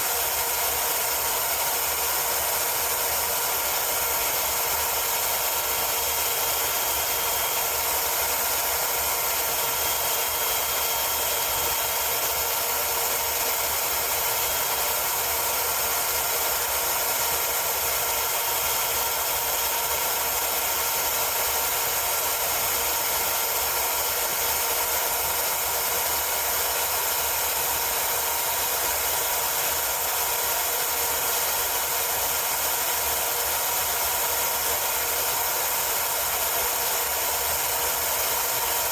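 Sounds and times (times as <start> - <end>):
electric knife sharpener grinding: 0.0 - 38.9.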